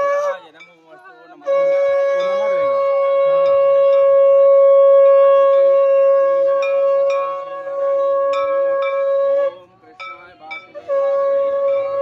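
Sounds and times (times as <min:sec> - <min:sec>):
conch shell blown: 0:00.0 - 0:00.5, 0:01.4 - 0:09.8, 0:10.5 - 0:12.0.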